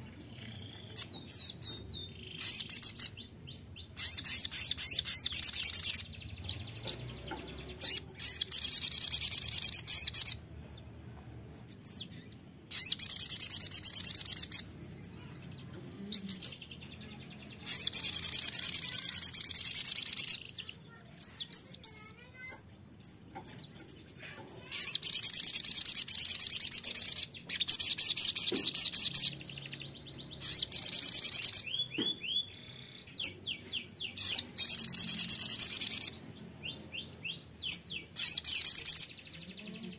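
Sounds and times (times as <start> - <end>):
bird chirps: 0.0 - 39.9
bird trilling song: 0.0 - 39.9.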